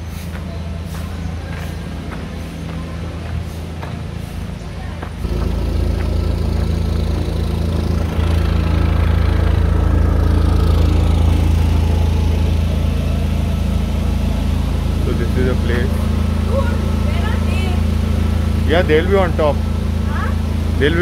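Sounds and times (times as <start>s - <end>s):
generator engine humming: 0.0s - 21.0s.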